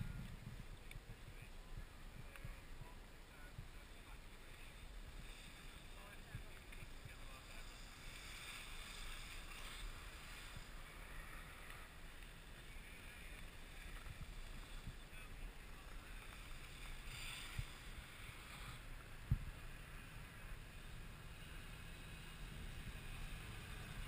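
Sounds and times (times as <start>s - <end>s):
muffled wind noise: 0.0s - 24.0s.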